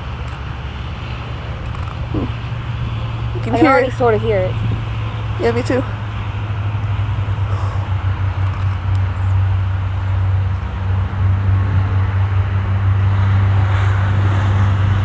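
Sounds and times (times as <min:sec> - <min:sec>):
jet engines droning: 0:00.0 - 0:15.0
second low engine tone: 0:00.0 - 0:15.0.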